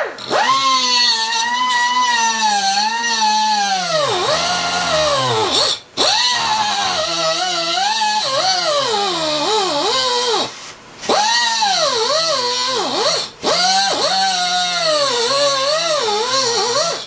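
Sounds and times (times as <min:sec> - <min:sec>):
cut-off wheel tool whining: 0:00.0 - 0:17.0.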